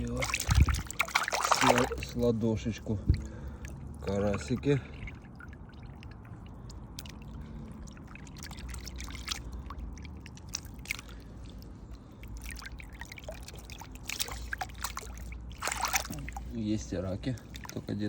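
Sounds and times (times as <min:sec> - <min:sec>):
small splashes in shallow water: 0:00.0 - 0:18.0
water trickling: 0:00.0 - 0:18.0.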